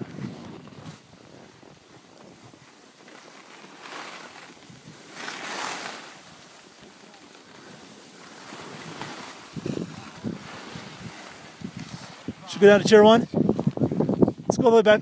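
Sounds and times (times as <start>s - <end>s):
skis scraping over snow: 0.0s - 15.0s.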